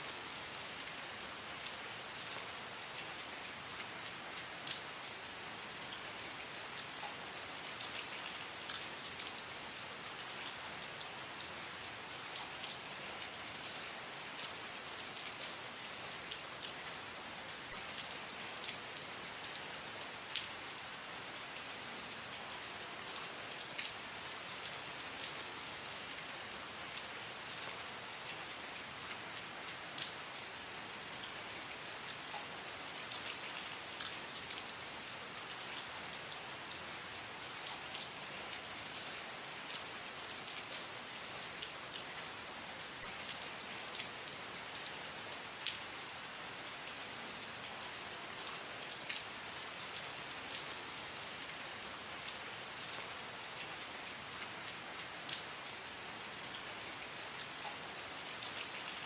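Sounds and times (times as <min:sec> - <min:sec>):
steady rain falling: 0:00.0 - 0:59.0
raindrops ticking on a surface: 0:00.2 - 0:59.0.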